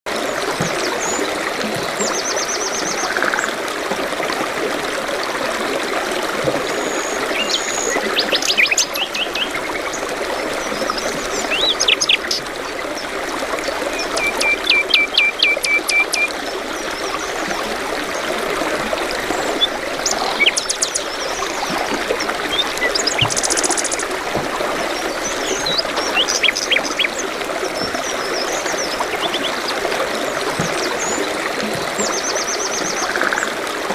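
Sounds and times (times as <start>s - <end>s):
brook babbling: 0.1s - 33.9s.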